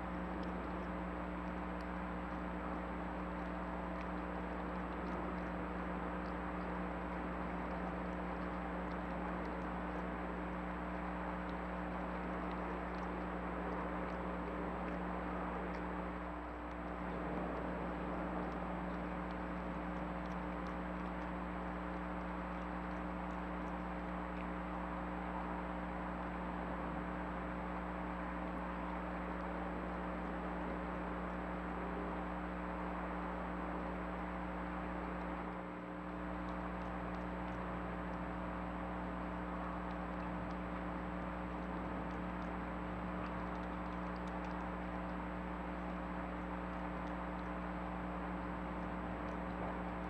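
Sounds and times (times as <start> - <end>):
electrical hum: 0.0 - 50.0.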